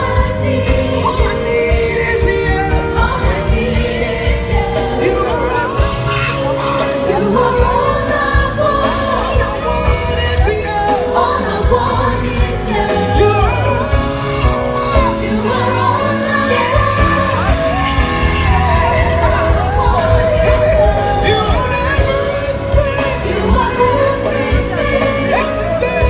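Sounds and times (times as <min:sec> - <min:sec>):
drums and bass beat: 0:00.0 - 0:26.0
live gospel band music: 0:00.0 - 0:26.0
voices singing wordless lines: 0:00.0 - 0:26.0.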